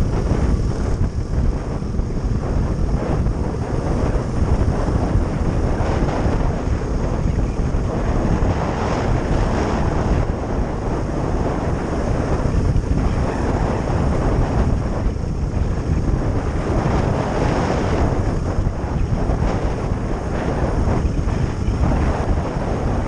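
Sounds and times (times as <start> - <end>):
motorcycle engine running: 0.0 - 23.0
wind rushing over microphone: 0.0 - 23.0.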